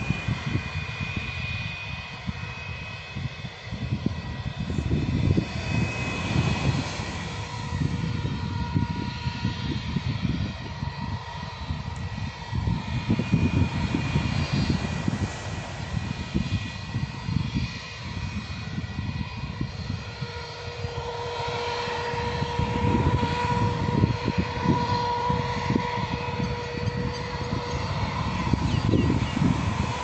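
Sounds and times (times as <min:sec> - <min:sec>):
gusty low rumble: 0:00.0 - 0:30.0
jet engines whining: 0:00.0 - 0:30.0.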